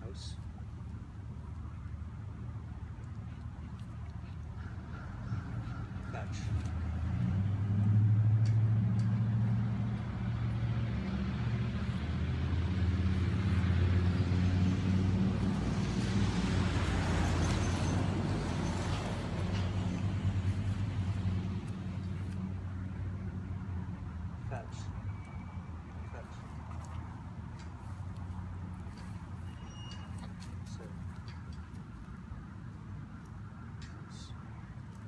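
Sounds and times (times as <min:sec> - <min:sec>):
vehicle engine humming: 0:00.0 - 0:35.0
vehicle passing with road hiss: 0:00.0 - 0:35.0.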